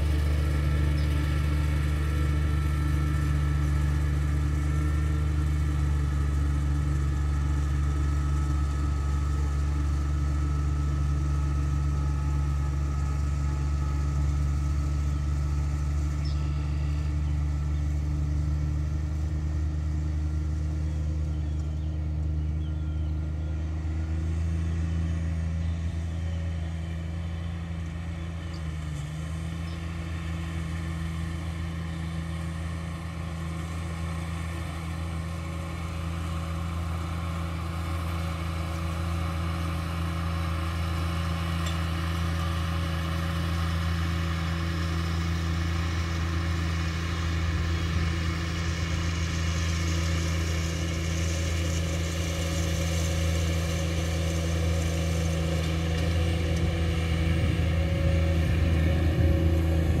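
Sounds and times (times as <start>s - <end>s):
riding mower engine running: 0.0s - 60.0s.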